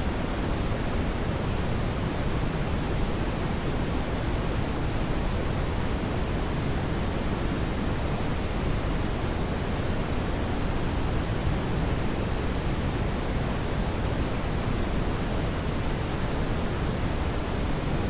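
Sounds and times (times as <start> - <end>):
brown noise hiss: 0.0 - 18.0.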